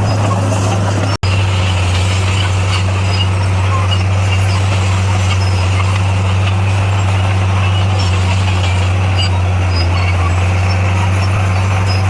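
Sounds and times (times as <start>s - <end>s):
bulldozer diesel engine droning: 0.0s - 12.0s.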